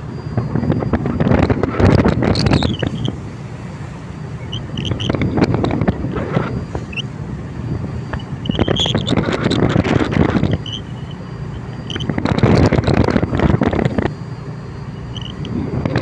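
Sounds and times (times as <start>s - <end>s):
wind gusting against microphone: 0.0s - 14.3s, 14.9s - 16.0s
boat engine droning: 0.0s - 16.0s.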